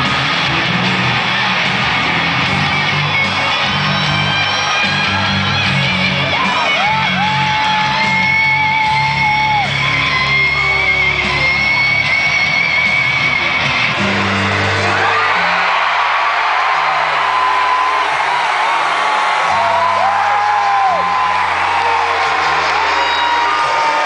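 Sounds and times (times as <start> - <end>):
crowd yelling and whooping: 0.0 - 24.0
rock music with electric guitar: 0.0 - 24.0.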